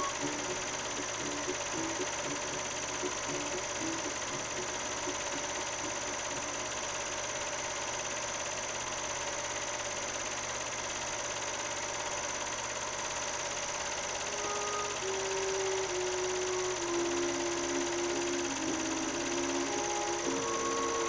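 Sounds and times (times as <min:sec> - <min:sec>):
steady mechanical hum with hiss: 0:00.0 - 0:21.0.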